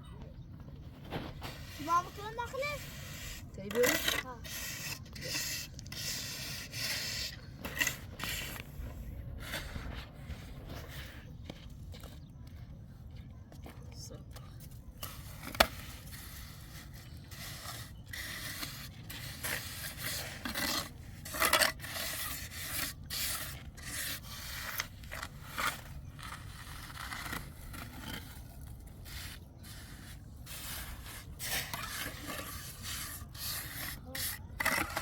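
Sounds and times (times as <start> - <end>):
scraping and rubbing strokes: 0.8 - 12.2, 15.0 - 35.0.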